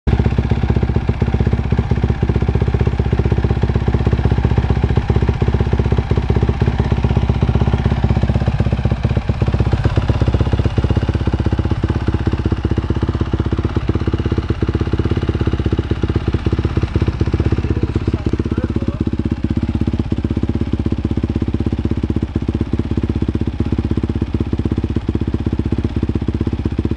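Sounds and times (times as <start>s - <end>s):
motorcycle engine idling: 0.1s - 26.9s.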